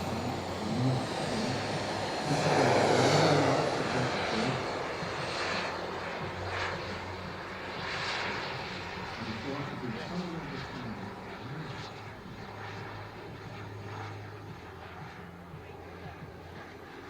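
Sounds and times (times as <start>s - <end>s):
jet turbine plane passing: 0.0s - 17.0s.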